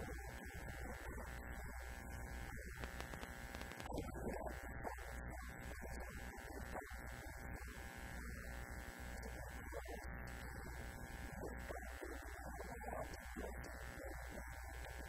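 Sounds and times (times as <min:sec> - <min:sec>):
electrical buzz: 0:00.0 - 0:12.4
low mains hum: 0:00.0 - 0:15.0.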